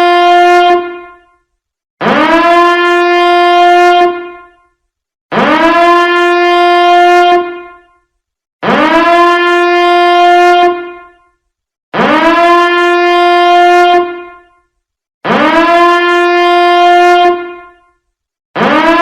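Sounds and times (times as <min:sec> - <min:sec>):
horn-like alarm blasts: 0:00.0 - 0:11.4, 0:12.0 - 0:18.0, 0:18.6 - 0:19.0.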